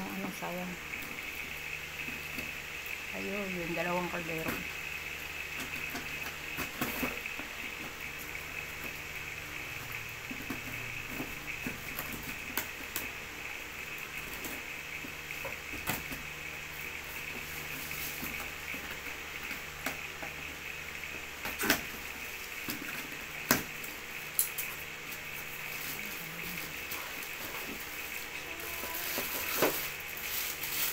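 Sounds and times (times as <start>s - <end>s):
steady background hum: 0.0s - 30.9s.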